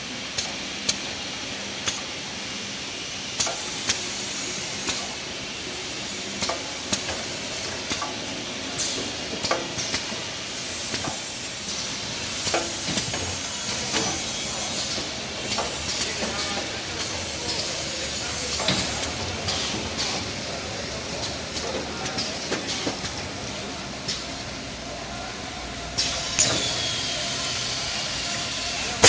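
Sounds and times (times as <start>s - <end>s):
packing machine hissing: 3.4s - 29.0s.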